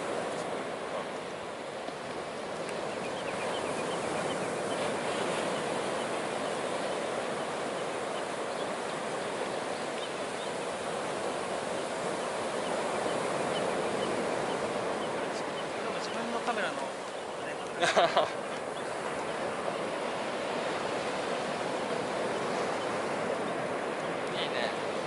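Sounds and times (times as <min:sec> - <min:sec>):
sea surf on shore: 0:00.0 - 0:25.0.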